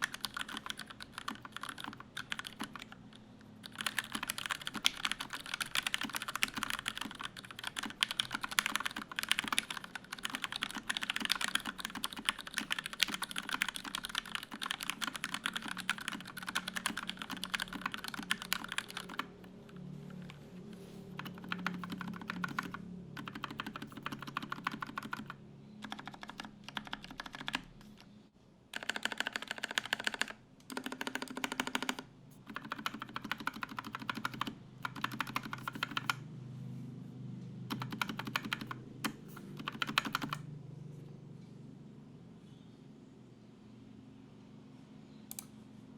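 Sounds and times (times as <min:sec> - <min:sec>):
typing on mechanical keyboard: 0:00.0 - 0:28.1, 0:28.8 - 0:36.2, 0:37.7 - 0:40.5.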